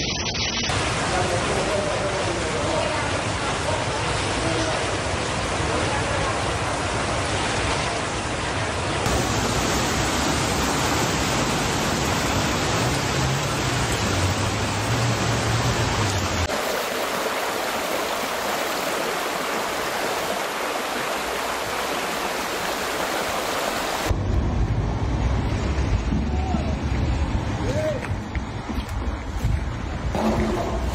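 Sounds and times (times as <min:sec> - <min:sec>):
floodwater rushing and splashing: 0:00.7 - 0:30.9.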